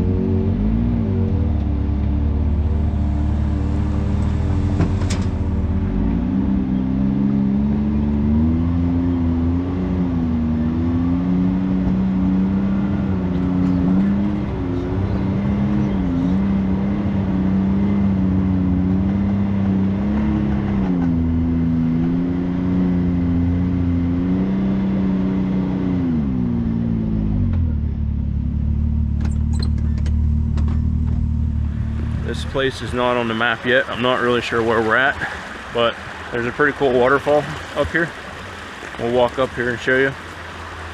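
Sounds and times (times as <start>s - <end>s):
utility vehicle engine revving: 0.0s - 40.9s.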